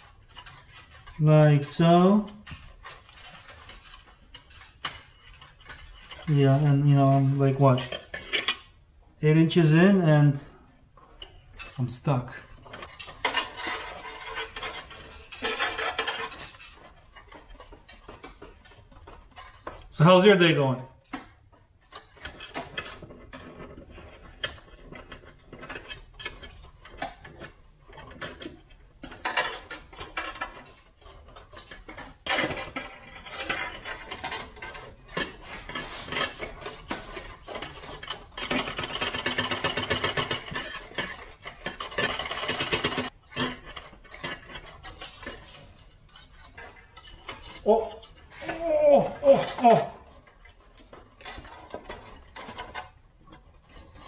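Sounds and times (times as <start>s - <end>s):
fast continuous rattling: 0.0s - 54.0s
steel wire scraping sheet metal: 0.0s - 54.0s.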